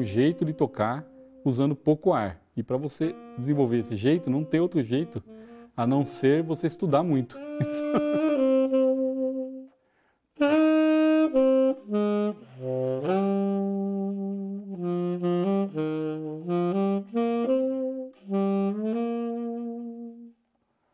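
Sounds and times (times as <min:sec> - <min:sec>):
tenor saxophone melody: 0:00.0 - 0:20.5.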